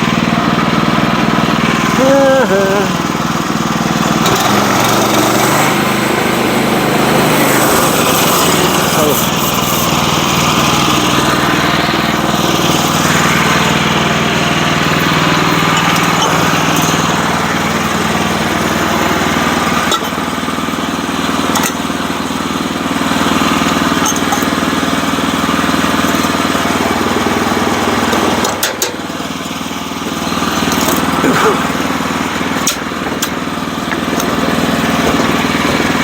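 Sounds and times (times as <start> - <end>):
gasoline engine sawing log: 0.0 - 36.0.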